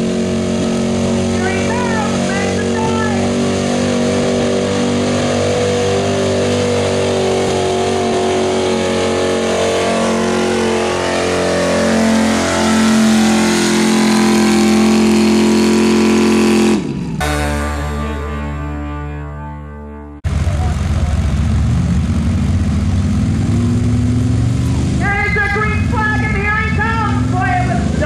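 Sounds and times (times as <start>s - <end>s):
truck engine under heavy load: 0.0s - 19.0s, 20.2s - 28.0s.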